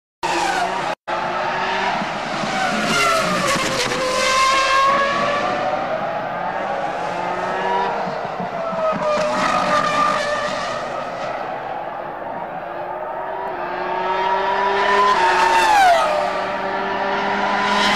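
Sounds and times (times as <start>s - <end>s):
racing car engine screaming: 0.2s - 17.9s.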